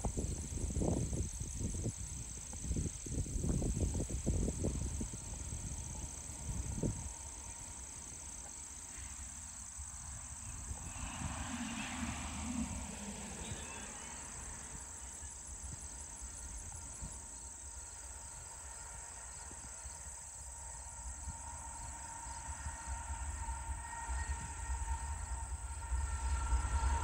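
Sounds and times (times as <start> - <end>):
distant diesel train rumble: 0.0 - 27.0
faint steady whine: 0.0 - 27.0.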